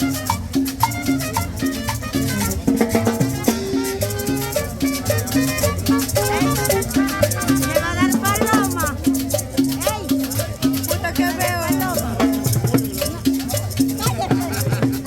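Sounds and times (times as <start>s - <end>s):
drums: 0.0s - 15.0s
latin dance music: 0.0s - 15.0s
maracas: 0.0s - 15.0s.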